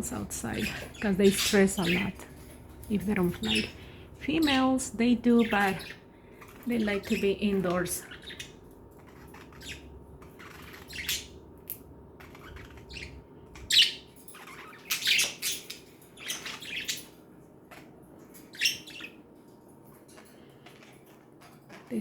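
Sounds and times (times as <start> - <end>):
budgerigars chirping and chattering: 0.0 - 22.0.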